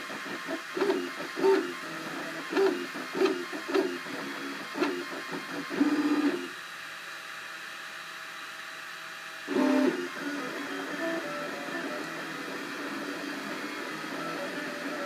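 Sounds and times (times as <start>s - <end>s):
printer stepper motors buzzing: 0.0s - 6.6s, 9.4s - 15.0s
printer humming: 0.0s - 7.1s, 9.2s - 15.0s.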